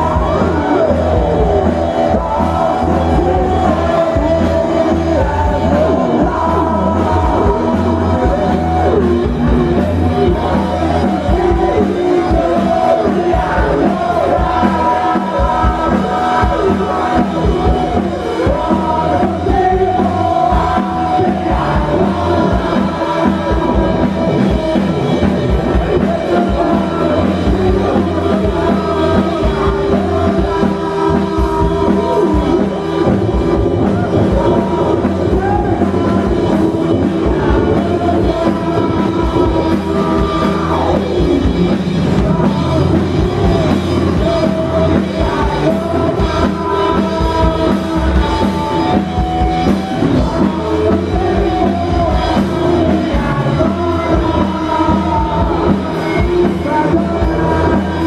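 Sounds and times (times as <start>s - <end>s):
crowd noise: 0.0s - 58.0s
live rock band playing: 0.0s - 58.0s
voices singing and shouting: 0.0s - 58.0s.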